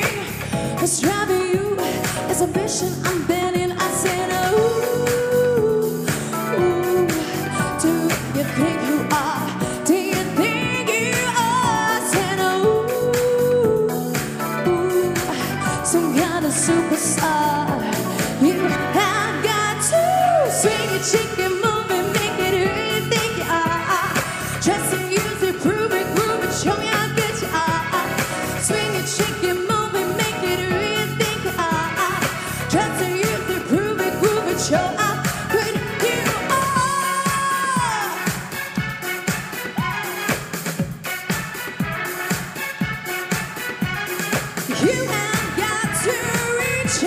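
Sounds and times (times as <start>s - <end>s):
woman singing: 0.0s - 40.4s, 44.7s - 47.0s
pop music with steady beat: 0.0s - 47.0s.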